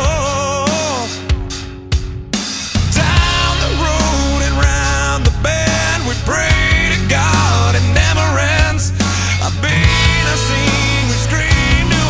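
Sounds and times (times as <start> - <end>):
person singing: 0.0 - 1.6, 2.8 - 12.0
bass line: 0.0 - 12.0
drum hits: 0.0 - 12.0.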